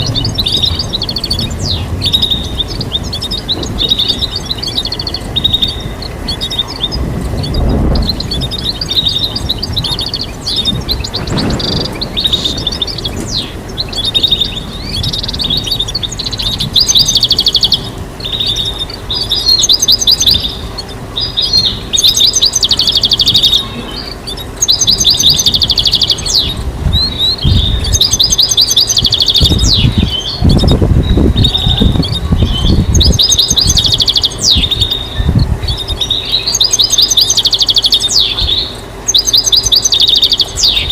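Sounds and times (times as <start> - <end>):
goldfinch singing: 0.0 - 40.9
low rumbles: 0.0 - 40.9.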